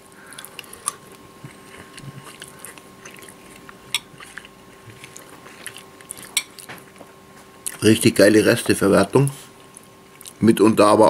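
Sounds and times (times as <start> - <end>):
man chewing food: 0.0 - 7.9, 9.4 - 10.4.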